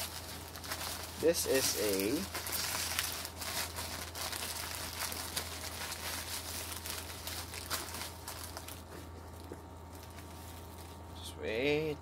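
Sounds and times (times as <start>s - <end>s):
bubble wrap crinkling: 0.0s - 11.2s.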